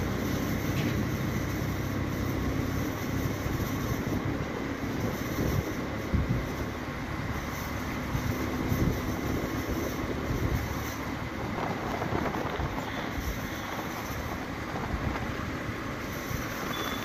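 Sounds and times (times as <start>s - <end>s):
engine and tyre rumble: 0.0s - 17.0s
wind rushing over microphone: 0.0s - 17.0s.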